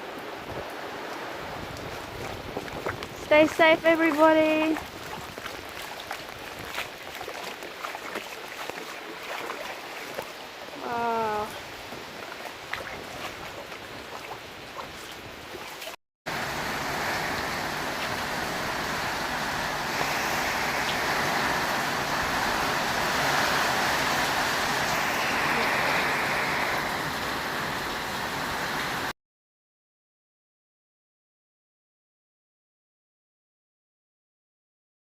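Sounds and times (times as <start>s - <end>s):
rushing flood water: 0.0s - 29.1s.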